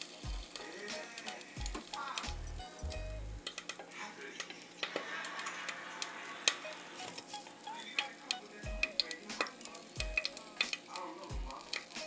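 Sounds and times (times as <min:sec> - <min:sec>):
grease sizzling faintly: 0:00.0 - 0:12.0.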